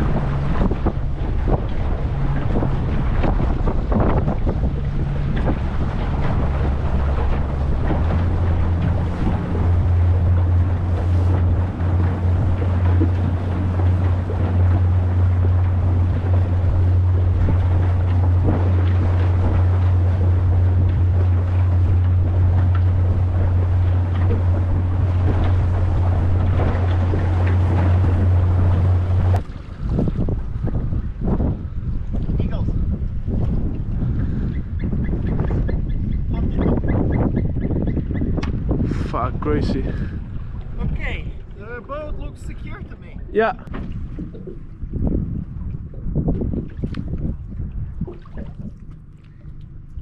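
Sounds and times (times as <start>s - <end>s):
motorboat engine drone: 0.0s - 50.0s
water rushing past hull: 0.0s - 50.0s
wind buffeting microphone: 0.0s - 50.0s.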